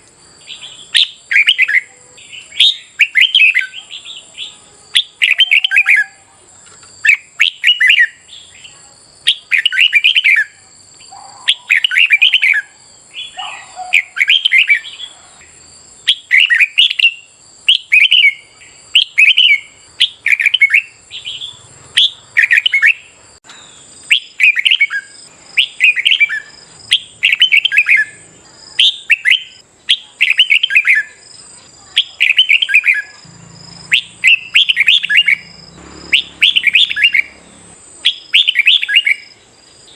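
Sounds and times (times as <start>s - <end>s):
bird singing loud phrases: 0.0s - 39.9s.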